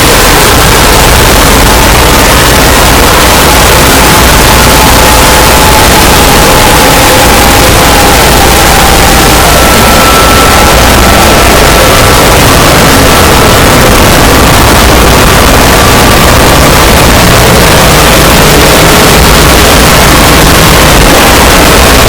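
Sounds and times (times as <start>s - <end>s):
loud deep rumbling noise: 0.0s - 22.0s.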